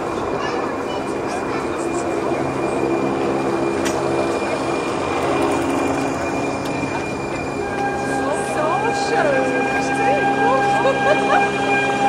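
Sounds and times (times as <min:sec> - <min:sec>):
humming tones from train: 0:00.0 - 0:12.0
train cars rumbling past: 0:00.0 - 0:12.0.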